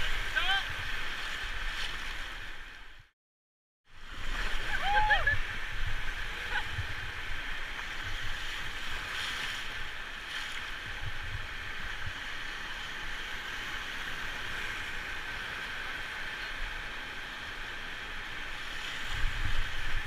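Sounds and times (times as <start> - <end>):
river water rushing: 0.0 - 2.8, 3.9 - 20.0.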